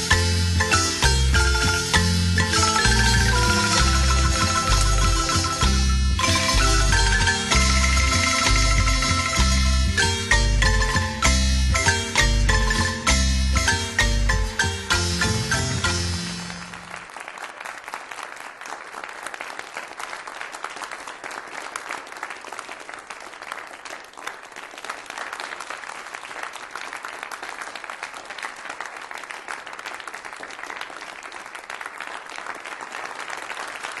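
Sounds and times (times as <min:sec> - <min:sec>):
crowd applauding: 0:00.0 - 0:13.0, 0:15.2 - 0:34.0.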